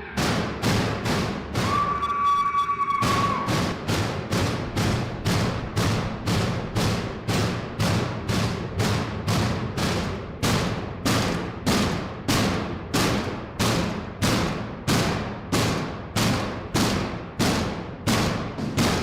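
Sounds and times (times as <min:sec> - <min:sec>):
pounding on cell doors: 0:00.0 - 0:19.0.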